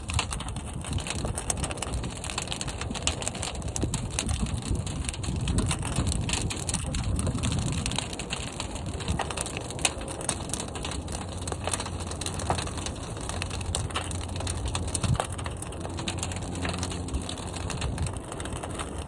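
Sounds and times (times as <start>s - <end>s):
fire crackling and popping: 0.0s - 19.0s
fire roaring in a kiln: 0.0s - 19.0s.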